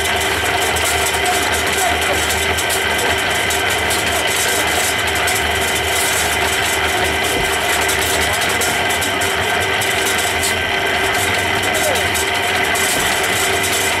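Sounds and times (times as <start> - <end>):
concrete mixer hum and rattle: 0.0 - 14.0.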